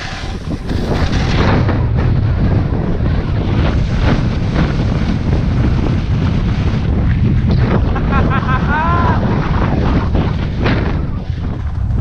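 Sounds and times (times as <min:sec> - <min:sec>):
skis scraping on snow: 0:00.0 - 0:12.0
wind buffeting microphone: 0:00.0 - 0:12.0.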